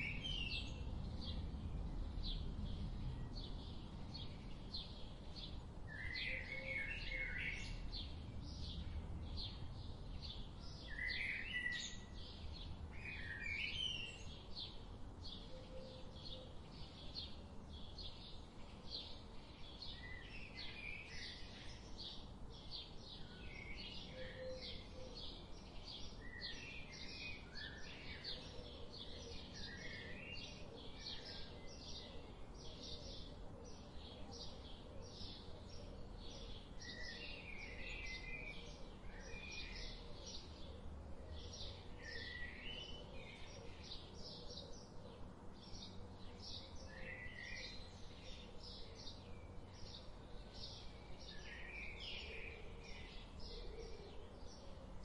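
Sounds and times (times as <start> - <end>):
forest birds chirping: 0.0 - 55.0.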